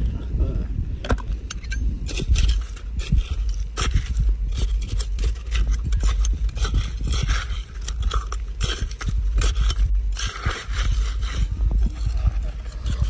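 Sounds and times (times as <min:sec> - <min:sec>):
low rumble: 0:00.0 - 0:13.0
trowel crunching in wet gravel: 0:02.1 - 0:13.0.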